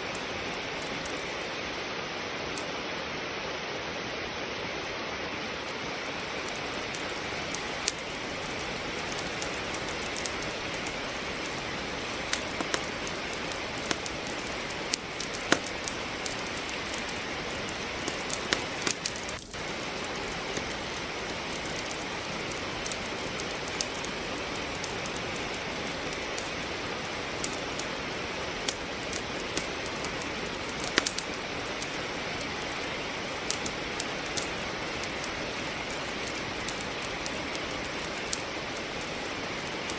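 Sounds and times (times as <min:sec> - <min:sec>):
rain hiss: 0:00.0 - 0:39.9
wood fire crackling: 0:00.0 - 0:39.9.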